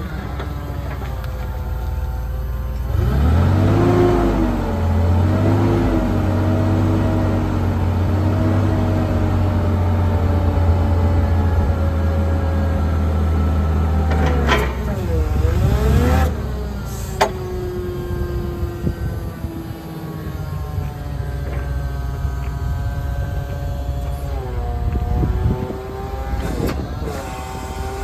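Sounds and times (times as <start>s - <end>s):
forklift engine revving: 0.0s - 28.0s.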